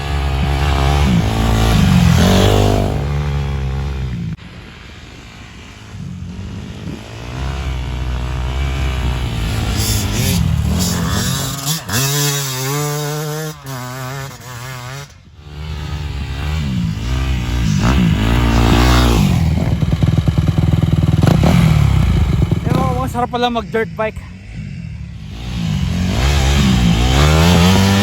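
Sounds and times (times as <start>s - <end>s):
dirt bike engine revving: 0.0s - 4.8s, 5.4s - 28.0s.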